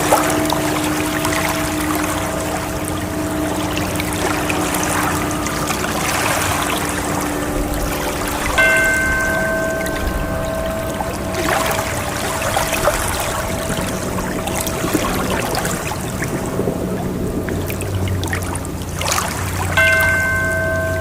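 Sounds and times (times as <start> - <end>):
faint background music tone: 0.0 - 21.0
ocean waves washing: 0.0 - 21.0.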